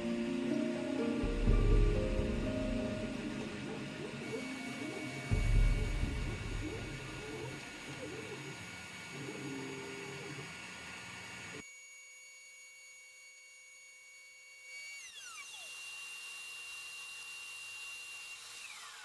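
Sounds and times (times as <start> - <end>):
router spindle whining: 0.0 - 19.0.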